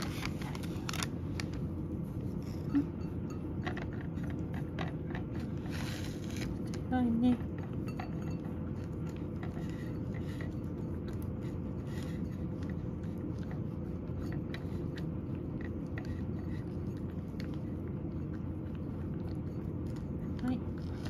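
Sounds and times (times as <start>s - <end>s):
steady low hum: 0.0s - 21.0s
cat chewing from ceramic bowl: 0.1s - 21.0s.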